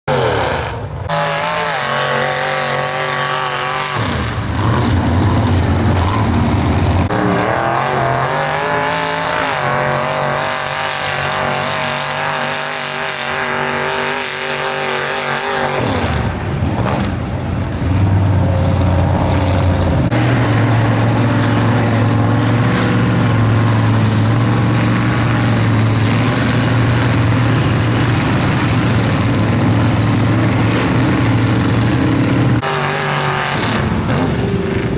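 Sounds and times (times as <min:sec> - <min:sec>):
truck engine at full throttle: 0:00.0 - 0:34.9.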